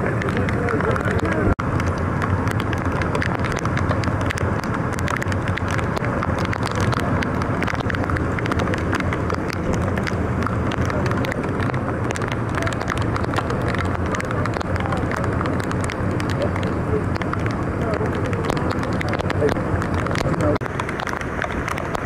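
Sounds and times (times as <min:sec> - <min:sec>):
heavy rain falling: 0:00.0 - 0:22.0
low rumble: 0:00.0 - 0:22.0
raindrops tapping: 0:00.0 - 0:22.0.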